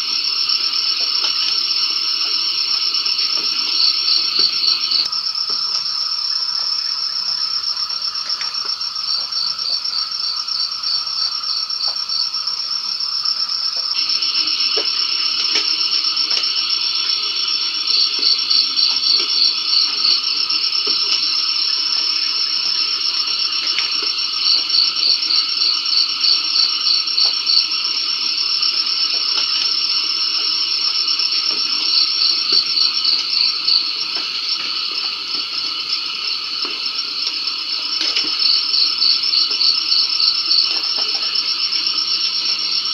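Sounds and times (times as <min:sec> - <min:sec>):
high-pitched insect trill: 0:00.0 - 0:42.9.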